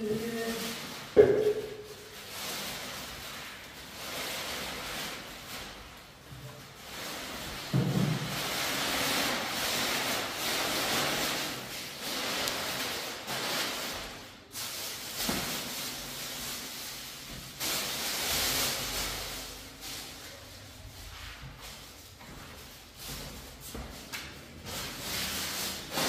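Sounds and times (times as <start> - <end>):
plastic sheeting crinkling: 0.0 - 26.0.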